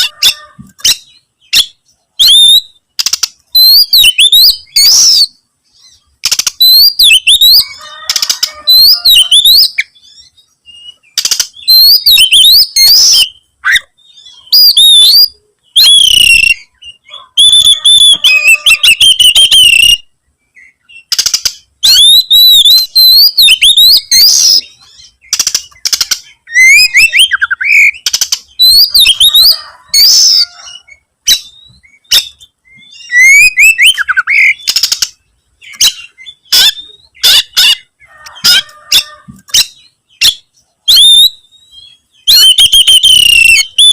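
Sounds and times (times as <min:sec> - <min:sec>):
songbird whistling: 0:00.8 - 0:21.2, 0:21.8 - 0:38.7, 0:39.5 - 0:43.9.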